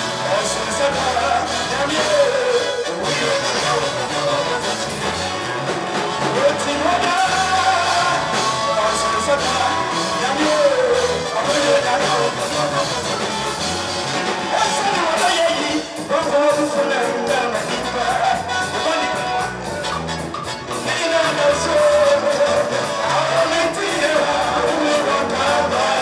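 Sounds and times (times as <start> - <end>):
drums: 0.0 - 26.0
electric guitar: 0.0 - 26.0
live band with singers: 0.0 - 26.0.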